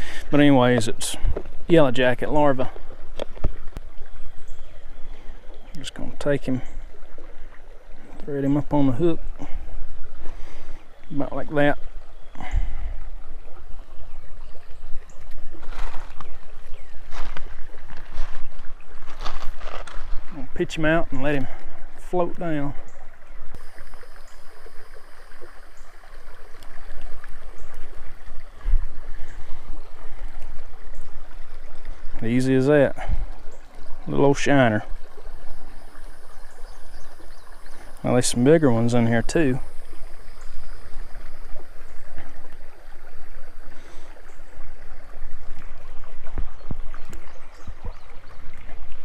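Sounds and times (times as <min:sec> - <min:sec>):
creek water flowing: 0:00.0 - 0:49.0.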